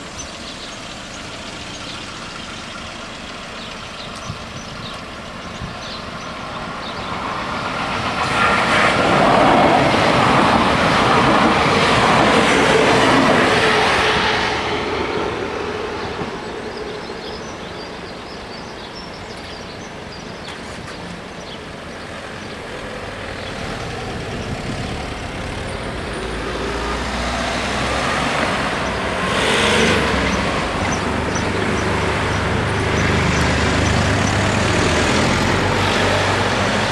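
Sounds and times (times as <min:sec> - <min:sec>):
cars driving past: 0:00.0 - 0:36.9
train carriage passing: 0:02.1 - 0:36.9.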